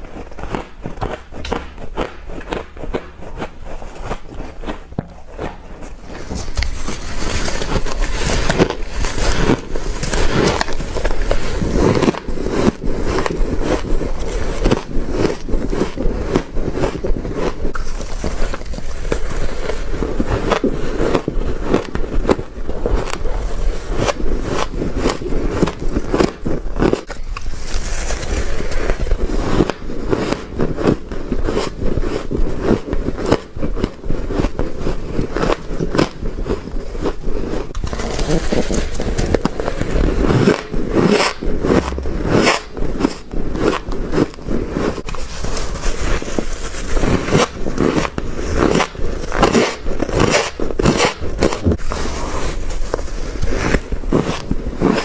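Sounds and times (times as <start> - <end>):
crunching frost while chewing: 0.0 - 55.0.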